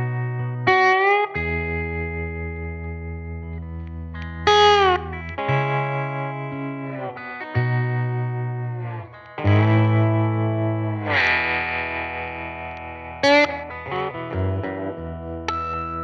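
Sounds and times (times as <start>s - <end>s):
electric lap steel guitar: 0.0s - 16.0s.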